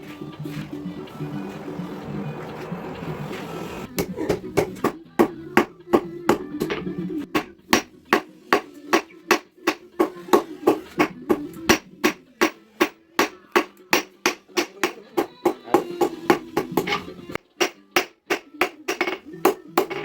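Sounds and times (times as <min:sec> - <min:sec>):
hammer striking steel on anvil: 0:03.9 - 0:20.0.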